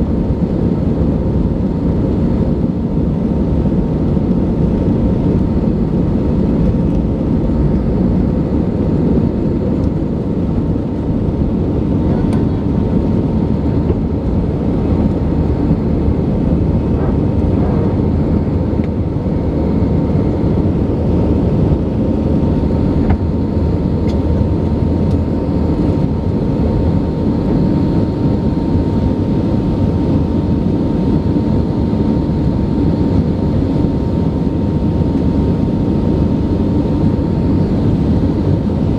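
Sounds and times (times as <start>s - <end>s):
jet engine cabin roar: 0.0s - 38.9s.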